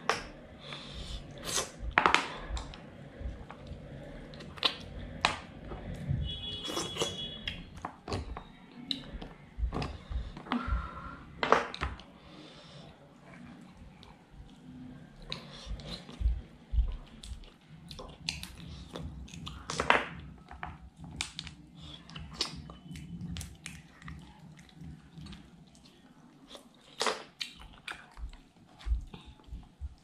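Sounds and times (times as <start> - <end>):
wet chewing and mouth smacking: 1.3 - 10.4, 13.4 - 30.0.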